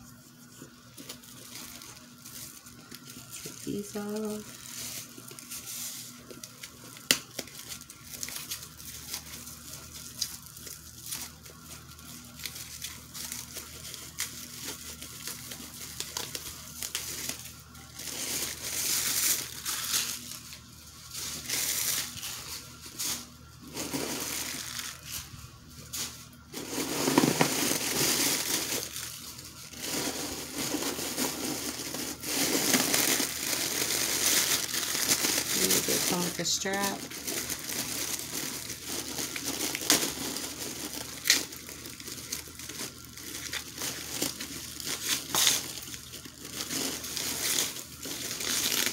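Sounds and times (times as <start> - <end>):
packaging crinkling and rustling: 0.0 - 48.9.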